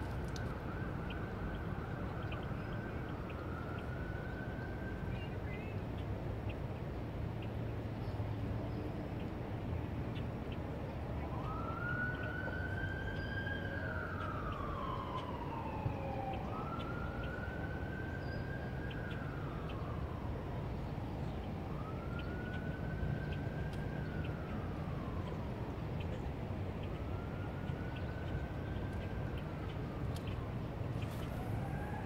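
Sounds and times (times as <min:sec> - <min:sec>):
wailing siren: 0:00.0 - 0:06.0, 0:10.4 - 0:32.0.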